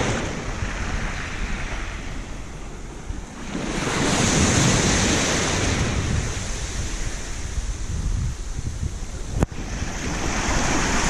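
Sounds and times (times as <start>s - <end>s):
waves breaking on beach: 0.0s - 11.0s
wind buffeting microphone: 0.0s - 11.0s.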